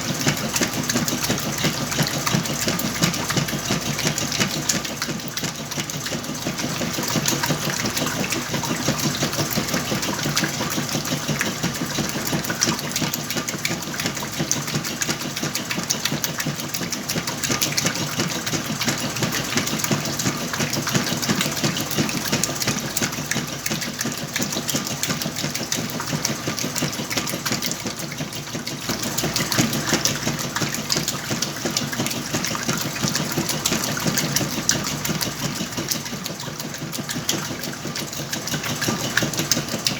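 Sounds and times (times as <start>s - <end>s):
washing machine rattling: 0.0s - 39.9s.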